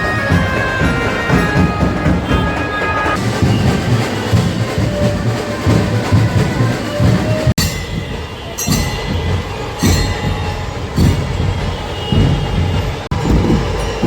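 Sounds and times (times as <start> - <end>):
held melody instrument: 0.0 - 14.0
procession drumming: 0.0 - 14.0.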